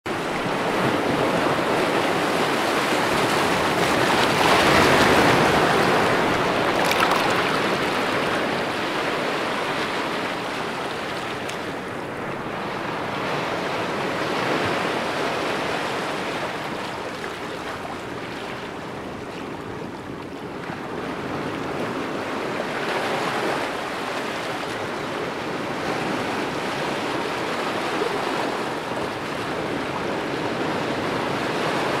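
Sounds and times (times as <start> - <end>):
ocean waves breaking: 0.1 - 32.0.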